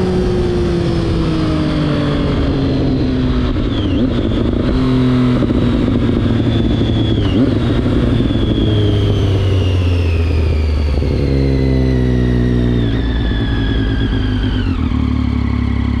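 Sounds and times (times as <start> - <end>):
motorcycle engine while riding: 0.0 - 16.0.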